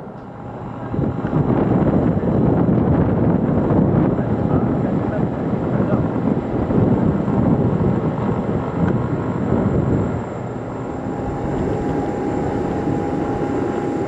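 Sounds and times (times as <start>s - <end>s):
jet engines rumbling: 0.0s - 14.0s
thin high jet whine: 0.0s - 14.0s.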